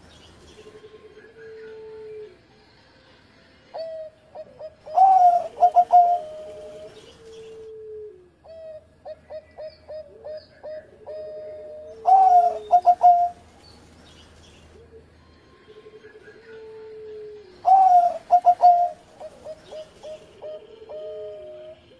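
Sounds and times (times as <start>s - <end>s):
dove cooing: 0.0s - 2.4s, 3.8s - 13.5s, 15.7s - 21.9s.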